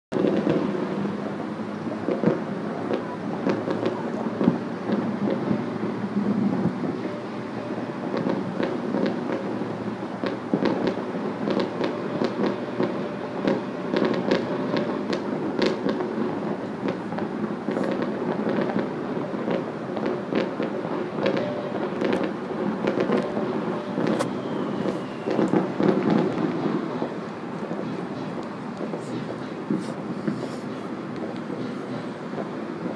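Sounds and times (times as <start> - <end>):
firecracker sharp cracks: 0.1 - 32.9
fireworks rumble of bangs: 0.1 - 32.9.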